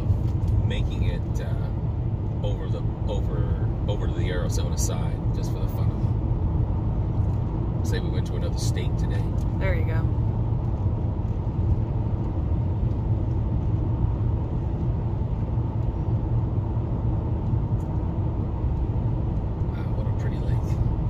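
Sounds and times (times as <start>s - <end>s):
car interior road and engine rumble: 0.0s - 21.0s.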